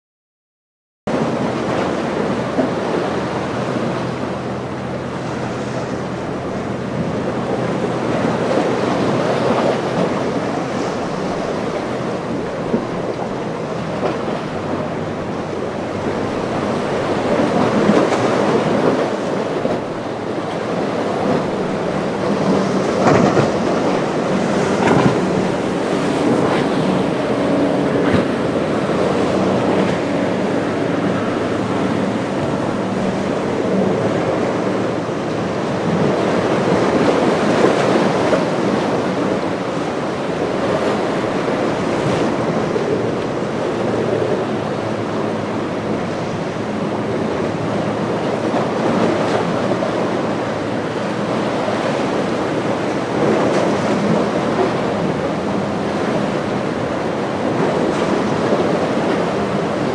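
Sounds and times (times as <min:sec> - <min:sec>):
outboard engines humming: 0:01.1 - 0:59.9
surf breaking: 0:01.1 - 0:59.9
wind buffeting microphone: 0:01.1 - 0:59.9.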